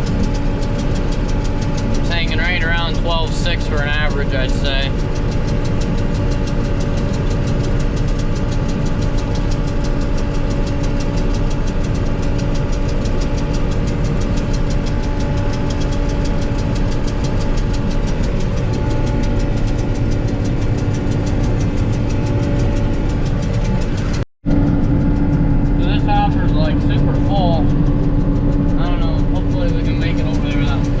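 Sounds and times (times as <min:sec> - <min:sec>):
combine harvester engine drone: 0:00.0 - 0:31.0.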